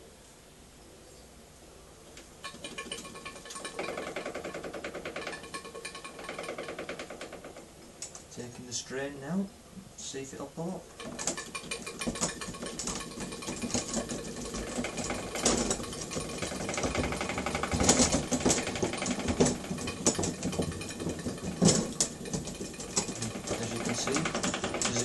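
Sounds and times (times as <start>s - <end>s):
steam engine mechanical clatter: 2.4s - 8.8s, 10.8s - 25.0s.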